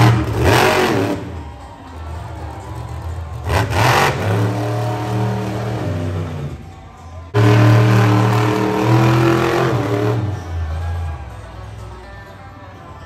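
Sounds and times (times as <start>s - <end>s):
monster truck engine revving: 0.0s - 11.4s
loud music from arena speakers: 0.0s - 13.0s.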